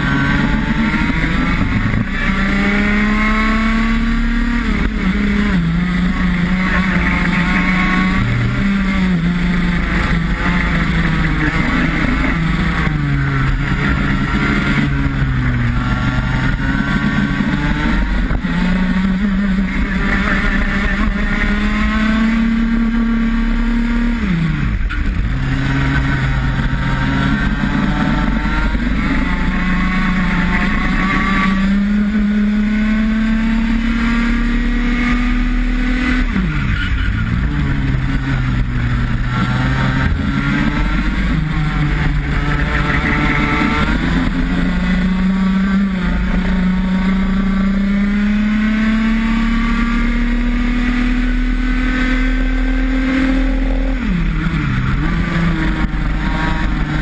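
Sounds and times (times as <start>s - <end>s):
kart engine at racing revs: 0.0s - 57.0s.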